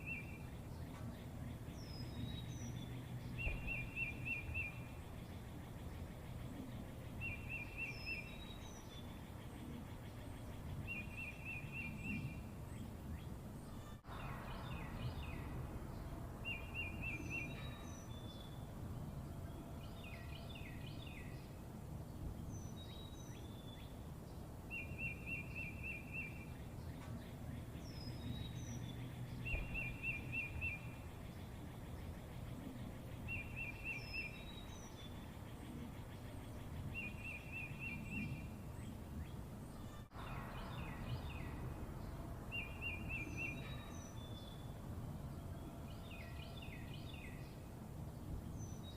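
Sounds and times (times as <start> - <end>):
bird chirps: 0.0 - 21.6, 24.7 - 47.7
low background rumble: 0.0 - 24.7, 26.4 - 48.9.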